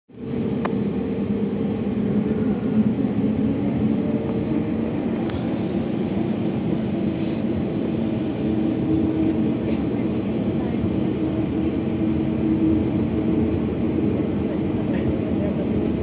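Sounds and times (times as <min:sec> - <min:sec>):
jet engines droning: 0:00.1 - 0:16.0.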